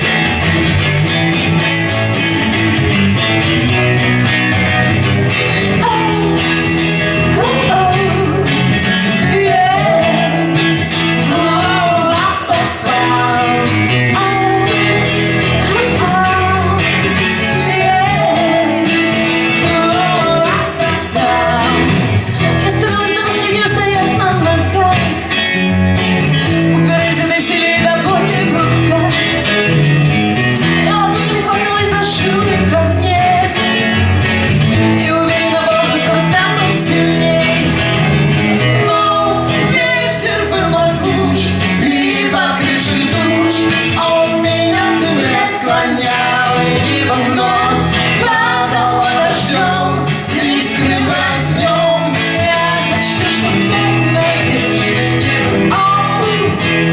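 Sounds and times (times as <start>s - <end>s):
guitar accompaniment: 0.0s - 56.9s
person singing: 4.8s - 25.5s, 26.3s - 29.8s, 30.4s - 56.9s.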